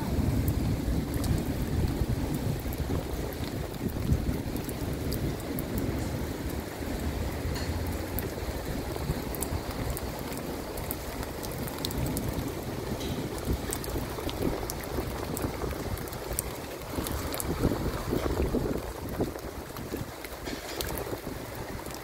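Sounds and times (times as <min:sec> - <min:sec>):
heavy rain hissing: 0:00.0 - 0:22.0
raindrops ticking: 0:00.0 - 0:22.0.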